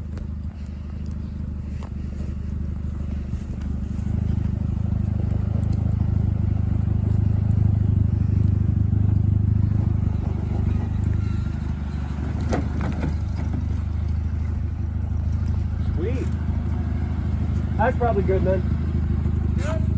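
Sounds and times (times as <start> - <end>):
car engine under load: 0.0 - 19.9.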